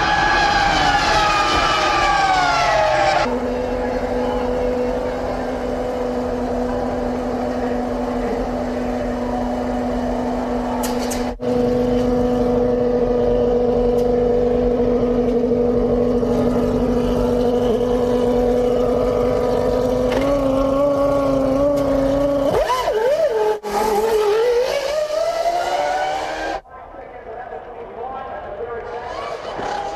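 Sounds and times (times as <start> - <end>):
racing car engines revving high: 0.0 - 26.6, 28.6 - 29.9.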